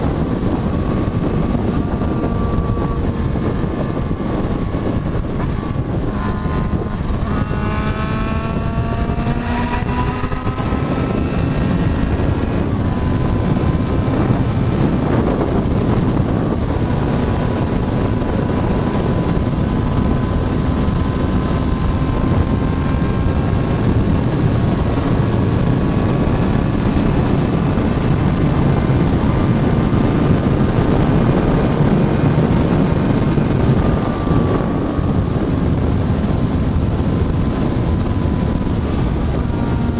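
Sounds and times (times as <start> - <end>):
motorcycle engine accelerating: 0.0 - 39.9
wind buffeting: 0.0 - 39.9.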